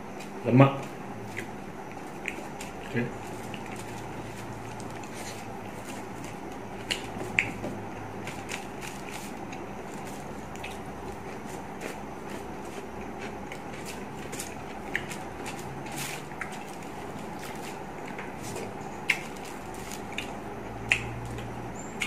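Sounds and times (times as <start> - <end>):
room noise: 0.0 - 22.0
chewing: 1.2 - 7.6, 8.2 - 22.0.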